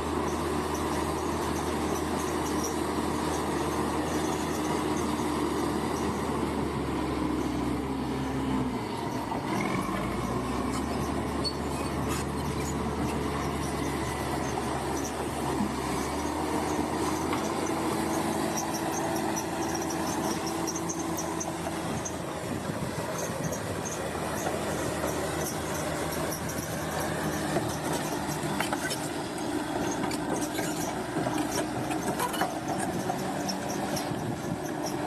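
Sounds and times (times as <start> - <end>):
steel tracks squealing and clattering: 0.0 - 7.6, 8.3 - 35.0
bulldozer diesel engine running: 0.0 - 35.0.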